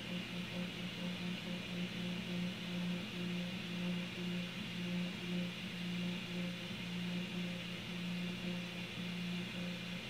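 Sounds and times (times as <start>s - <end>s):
cooling fans hissing: 0.0s - 10.0s.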